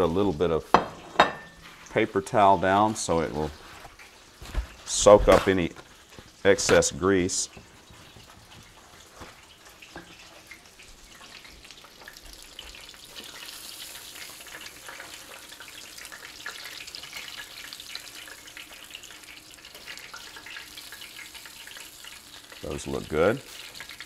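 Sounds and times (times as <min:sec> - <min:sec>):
fish frying in hot oil: 0:00.0 - 0:24.0.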